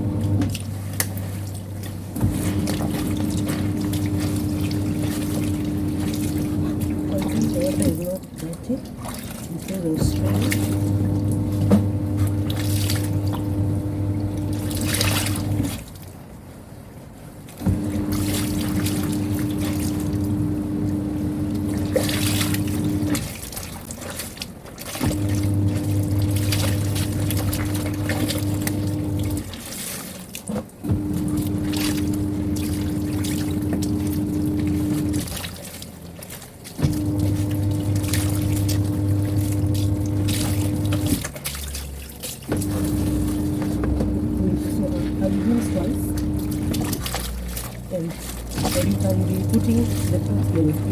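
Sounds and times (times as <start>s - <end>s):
washing machine motor humming: 0.0s - 16.3s, 17.5s - 50.9s
water sloshing: 0.0s - 50.9s.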